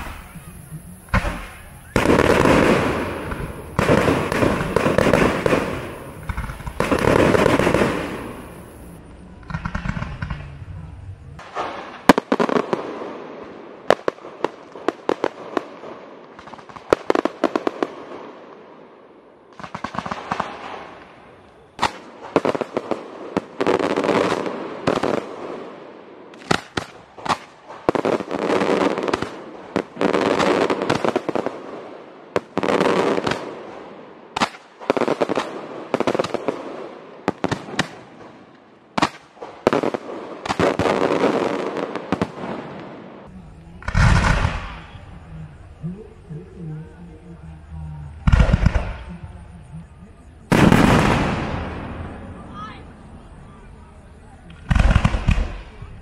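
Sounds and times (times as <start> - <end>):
fireworks bangs: 0.0 - 46.2, 48.1 - 56.0
dense fireworks crackle: 0.0 - 56.0.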